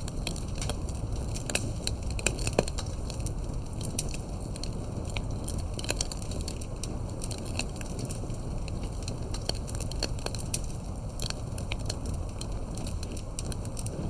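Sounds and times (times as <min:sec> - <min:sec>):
campfire crackling and popping: 0:00.0 - 0:14.0
low rumble of flames: 0:00.0 - 0:14.0.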